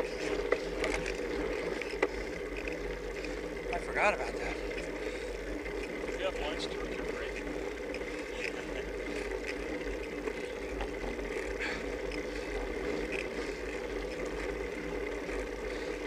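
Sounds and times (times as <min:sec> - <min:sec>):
tyre and drivetrain hum: 0:00.0 - 0:16.0.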